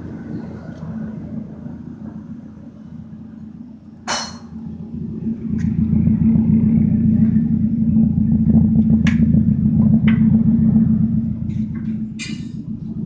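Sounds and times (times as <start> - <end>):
loud pulsing engine exhaust: 0.0 - 13.0.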